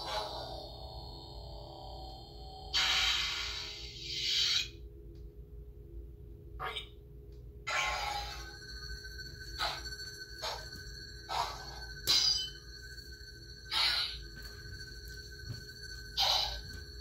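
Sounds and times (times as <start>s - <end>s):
lightsaber hum: 0.0s - 4.8s, 7.7s - 17.0s.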